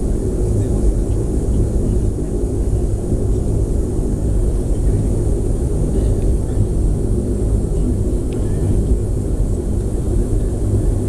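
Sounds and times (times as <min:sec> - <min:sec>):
aircraft engines rumbling: 0:00.0 - 0:11.0.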